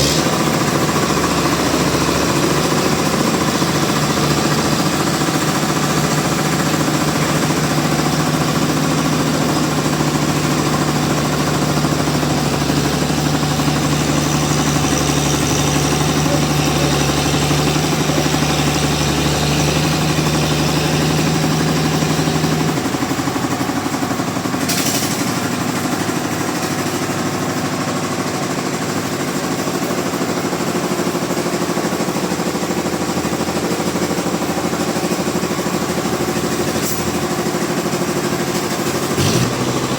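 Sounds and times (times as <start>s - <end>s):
sawmill machinery clattering: 0.0s - 39.9s.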